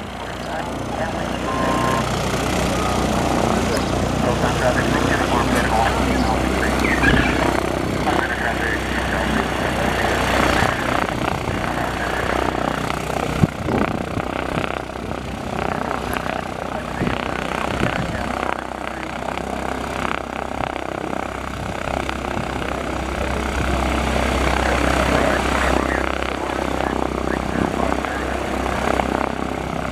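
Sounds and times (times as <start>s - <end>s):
propeller plane engine running: 0.0s - 29.9s.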